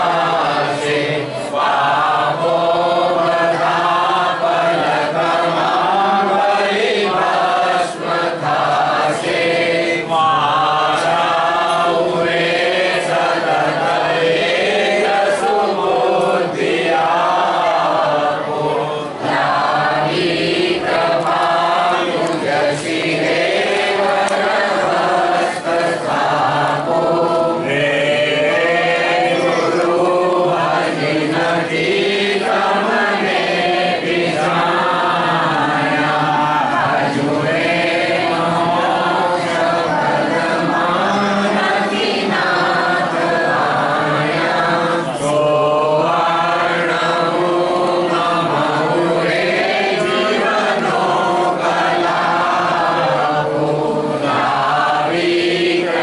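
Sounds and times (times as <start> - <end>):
crowd singing in chorus: 0.0 - 56.0.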